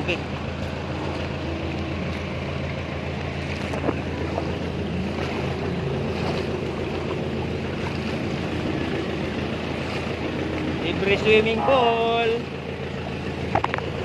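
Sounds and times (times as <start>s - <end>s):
motorcycle engine running: 0.0s - 14.0s
water sloshing: 0.0s - 14.0s.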